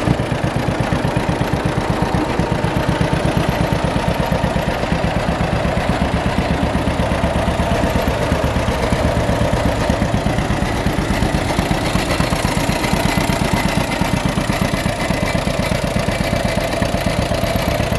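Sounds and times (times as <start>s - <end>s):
tractor engine idling: 0.0s - 17.9s.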